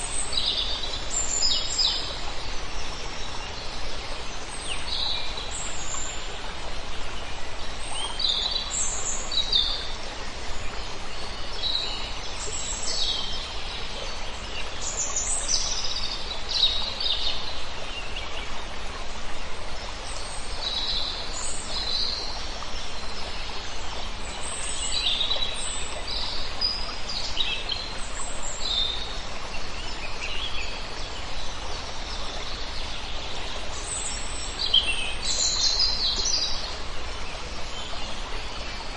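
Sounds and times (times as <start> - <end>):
flowing water hiss: 0.0 - 38.9.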